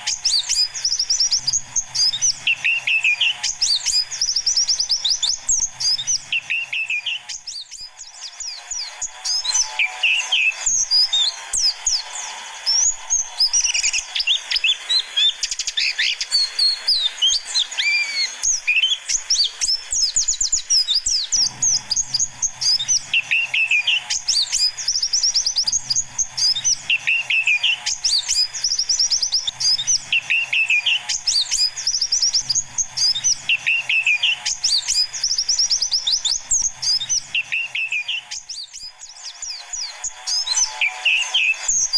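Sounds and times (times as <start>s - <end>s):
bird twittering chirps and trills: 0.0s - 41.9s.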